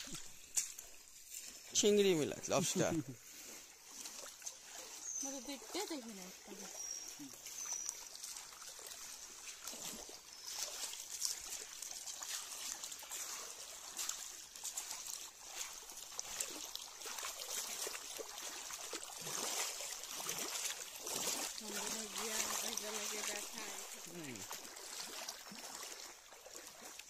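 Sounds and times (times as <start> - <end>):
stream water trickling: 0.0 - 27.0
water sloshing: 0.0 - 27.0.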